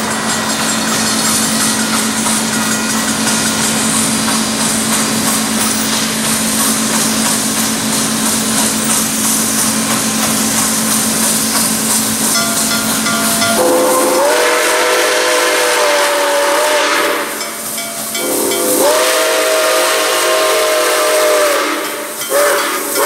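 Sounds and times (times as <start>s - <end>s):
steam locomotive running noise: 0.0s - 23.0s.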